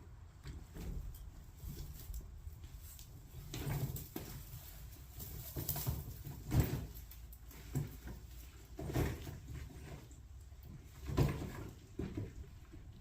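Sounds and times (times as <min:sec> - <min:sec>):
rustles: 0:00.1 - 0:13.0.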